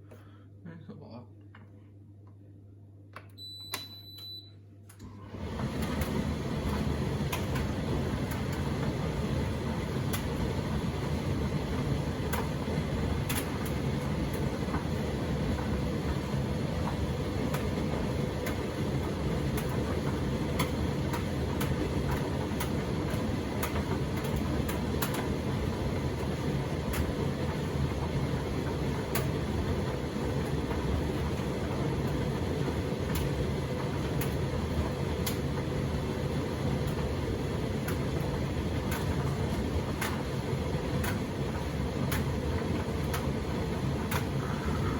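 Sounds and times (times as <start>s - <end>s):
tumble dryer humming: 4.9s - 44.9s.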